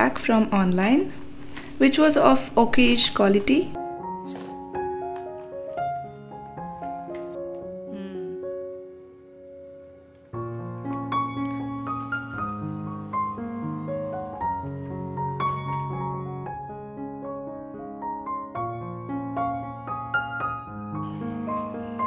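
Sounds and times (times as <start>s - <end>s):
piano background music: 0.0s - 22.0s.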